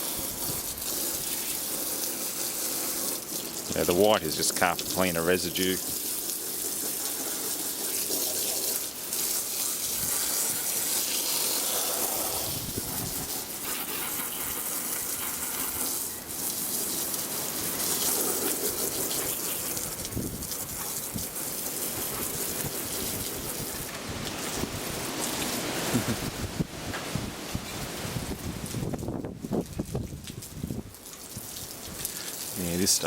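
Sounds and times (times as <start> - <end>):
hose water spraying on carpet: 0.0 - 33.0.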